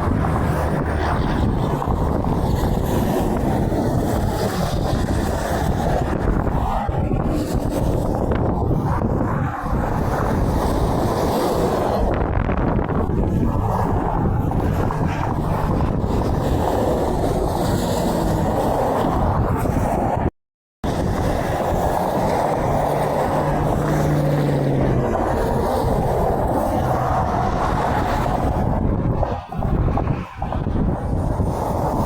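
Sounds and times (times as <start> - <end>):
highway traffic rumble: 0.0 - 32.0
wind buffeting microphone: 0.0 - 32.0.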